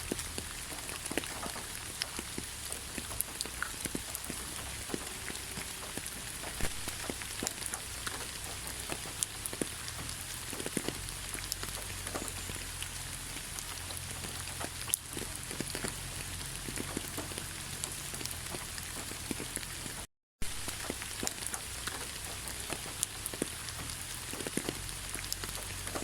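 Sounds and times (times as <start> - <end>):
raindrop hits: 0.0 - 26.0
steady rain hiss: 0.0 - 26.0.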